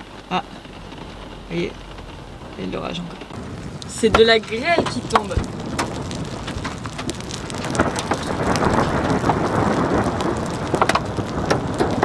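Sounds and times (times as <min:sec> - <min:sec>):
hail hitting van roof: 0:00.0 - 0:12.0
rain and wind rushing: 0:00.0 - 0:12.0.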